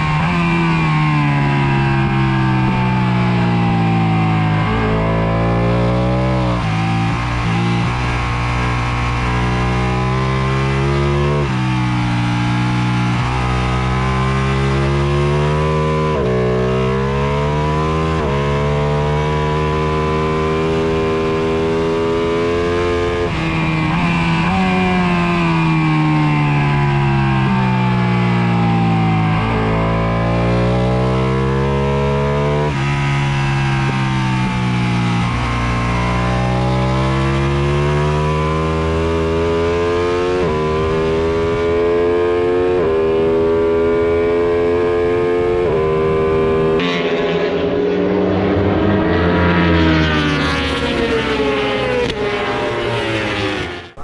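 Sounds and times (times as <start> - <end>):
motorcycle engine revving and upshifting: 0.0 - 54.0.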